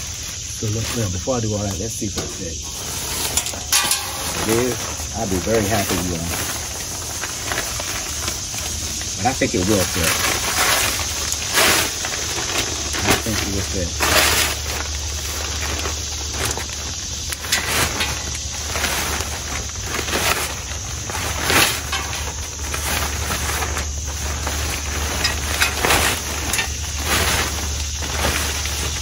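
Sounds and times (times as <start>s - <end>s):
chair cover rustling and crackling: 0.0s - 29.0s
steady low hum: 0.0s - 29.0s.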